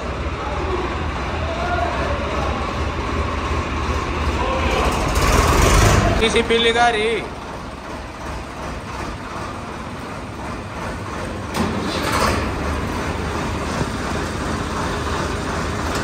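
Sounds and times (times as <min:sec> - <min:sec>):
engine clatter: 0:00.0 - 0:16.0
tractor diesel engine rumbling: 0:00.0 - 0:16.0.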